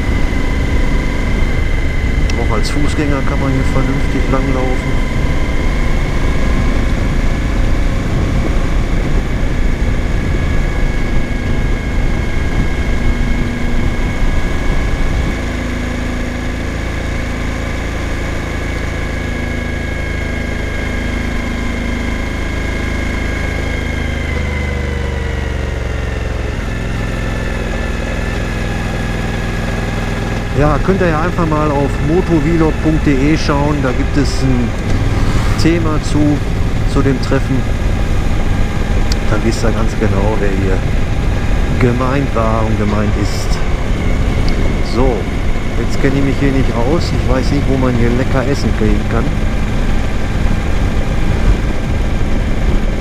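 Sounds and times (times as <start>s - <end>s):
motorcycle engine running: 0.0s - 53.0s
rushing wind: 0.0s - 53.0s.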